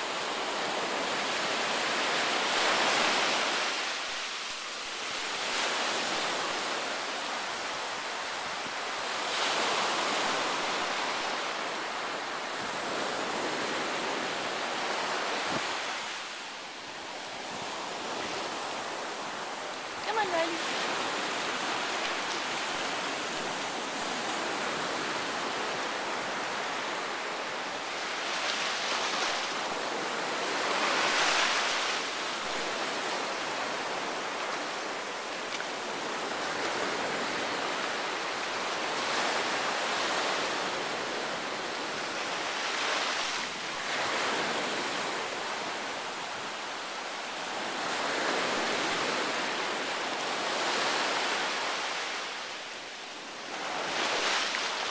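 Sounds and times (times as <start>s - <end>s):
surf washing over sand: 0.0s - 54.9s.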